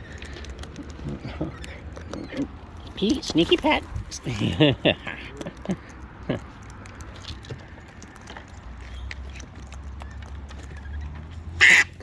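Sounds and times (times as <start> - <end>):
cockatoos feeding clicks and taps: 0.0 - 11.8.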